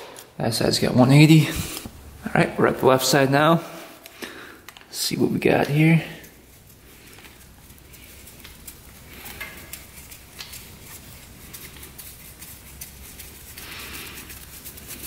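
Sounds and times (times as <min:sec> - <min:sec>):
hands and tools rustling: 0:00.0 - 0:15.0.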